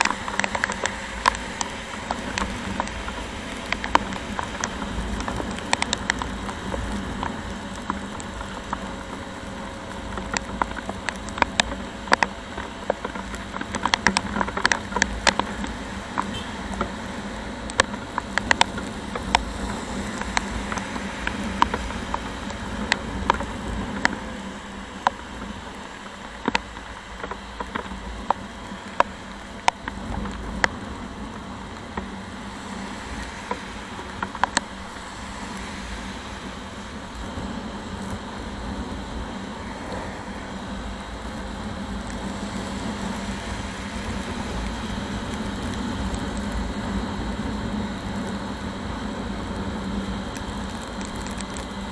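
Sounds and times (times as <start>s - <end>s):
raindrops striking microphone: 0.0s - 51.9s
wind and road noise: 0.0s - 51.9s.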